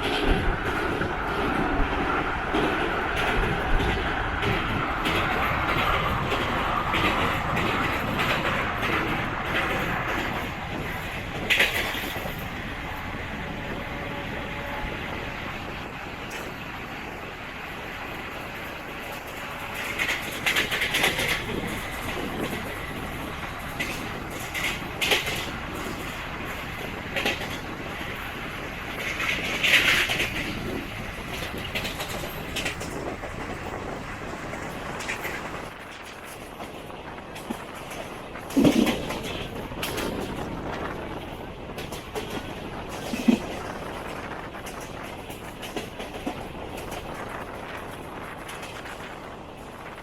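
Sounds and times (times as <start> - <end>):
wheels clattering over rail joints: 0.0 - 12.6, 17.8 - 50.0
train coach rushing noise: 0.0 - 50.0.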